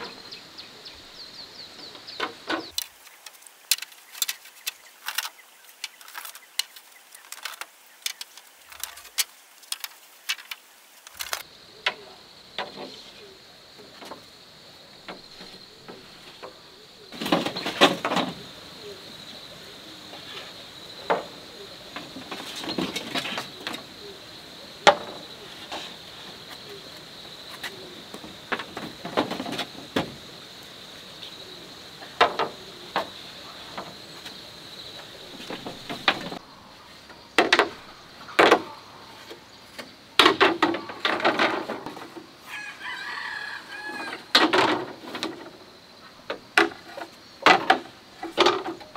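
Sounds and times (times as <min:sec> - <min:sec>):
bamboo poles knocking and clattering: 0:01.8 - 0:13.2, 0:13.8 - 0:14.3, 0:15.0 - 0:18.5, 0:20.1 - 0:24.0, 0:24.8 - 0:30.4, 0:32.0 - 0:36.4, 0:37.0 - 0:42.7, 0:43.8 - 0:48.9.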